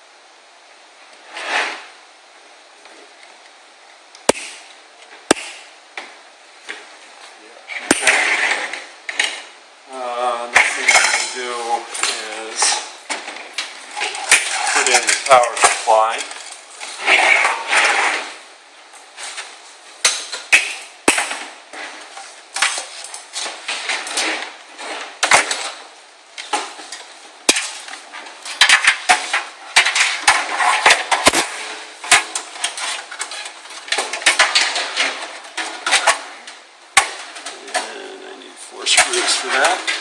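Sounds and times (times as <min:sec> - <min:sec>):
scraping and handling noise: 0:04.5 - 0:09.6, 0:10.4 - 0:40.0.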